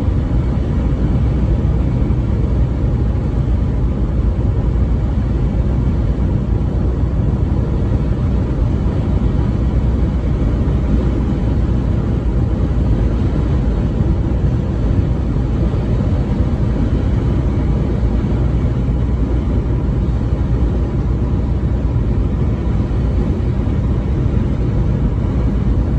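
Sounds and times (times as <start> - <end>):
moving vehicle rumble: 0.0 - 25.9.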